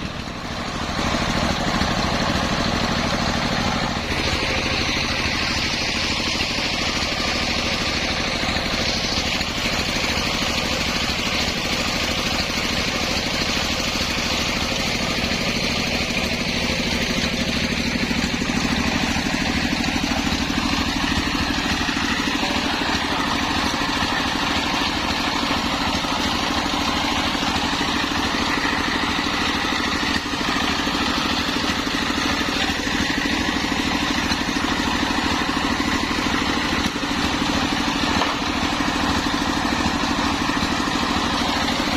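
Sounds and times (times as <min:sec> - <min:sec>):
circular saw sawing wood: 0:00.8 - 0:41.9.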